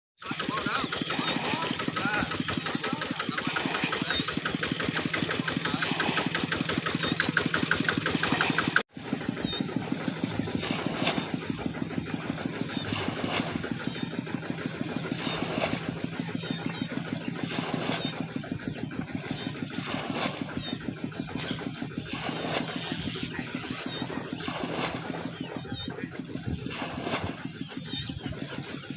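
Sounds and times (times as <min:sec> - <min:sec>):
small engine running: 0:00.2 - 0:28.9.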